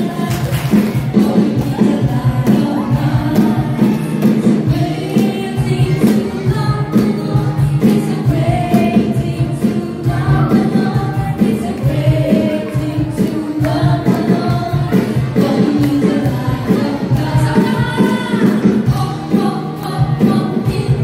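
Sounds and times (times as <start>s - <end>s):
backing music with steady beat: 0.0s - 21.0s
group singing worship song: 0.0s - 21.0s.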